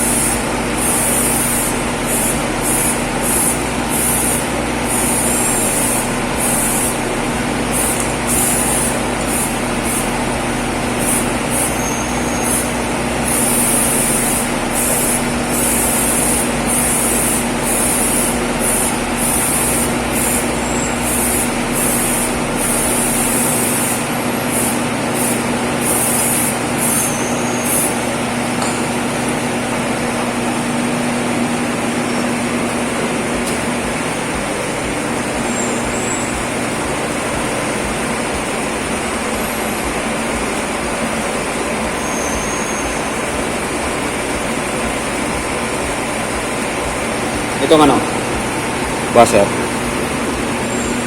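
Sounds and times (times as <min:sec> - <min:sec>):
high hiss bursts: 0:00.0 - 0:31.4, 0:33.6 - 0:51.0
machine hum: 0:00.0 - 0:51.0.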